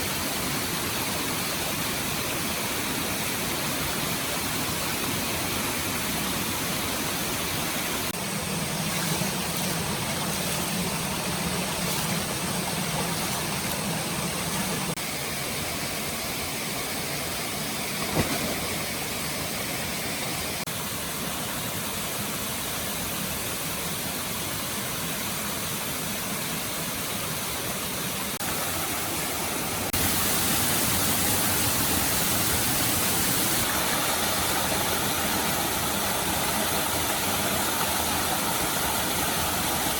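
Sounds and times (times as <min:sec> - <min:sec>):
stream rushing: 0:00.0 - 0:26.3, 0:26.9 - 0:39.9.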